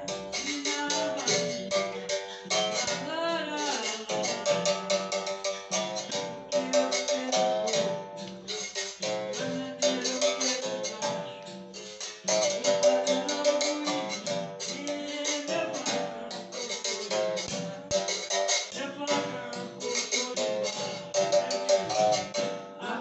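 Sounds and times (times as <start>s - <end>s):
strummed string instrument: 0.0s - 23.0s.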